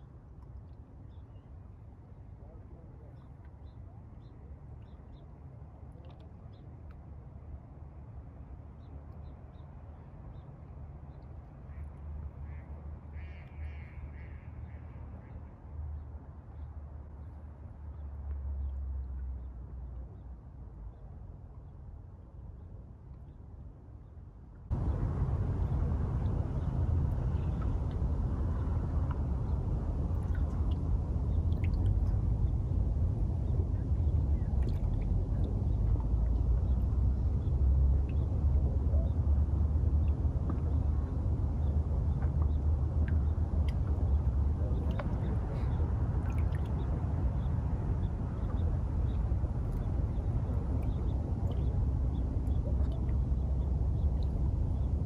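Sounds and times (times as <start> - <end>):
low outdoor rumble: 9.8 - 55.0.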